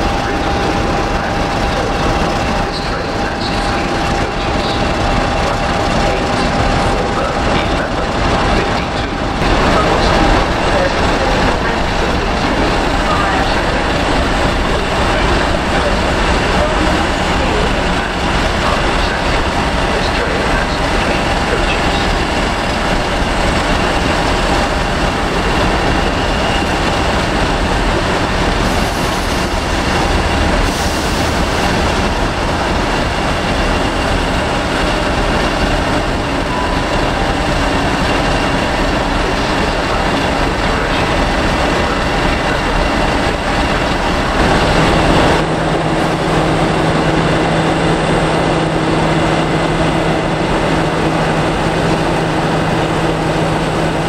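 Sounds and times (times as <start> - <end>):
diesel locomotive engine droning: 0.0 - 54.0
high whine: 0.0 - 54.0.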